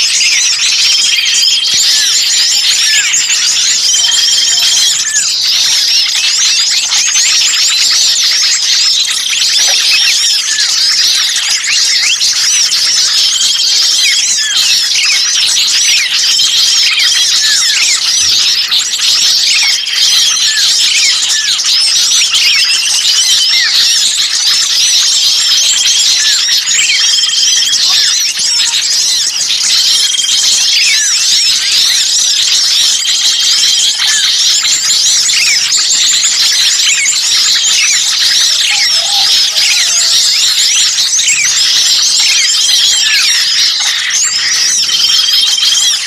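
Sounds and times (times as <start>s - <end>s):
small songbirds chirping chorus: 0.0s - 46.0s.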